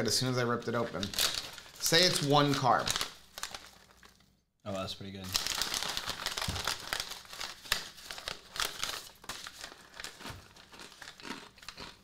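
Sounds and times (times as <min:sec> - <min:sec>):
plastic pouch crinkling: 0:00.3 - 0:04.3, 0:05.2 - 0:12.0.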